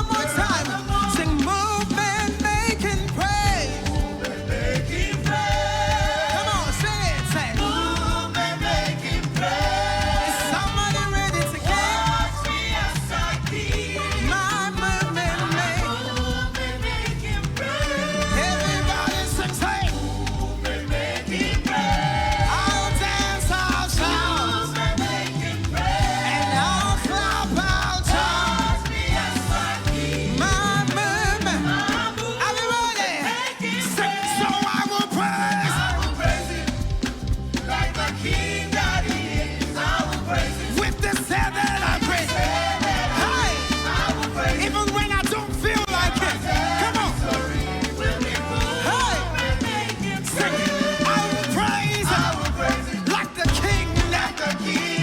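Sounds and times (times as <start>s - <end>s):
gospel band playing: 0.0s - 55.0s
singers holding long notes: 3.6s - 55.0s.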